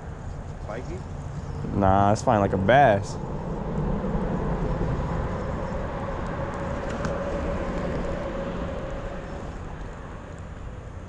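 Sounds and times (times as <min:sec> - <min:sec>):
traffic rumbling over bridge: 0:00.0 - 0:11.0.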